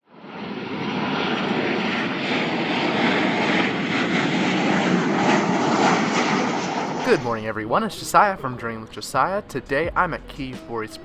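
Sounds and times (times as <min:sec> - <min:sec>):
jet engines running: 0:00.1 - 0:10.0.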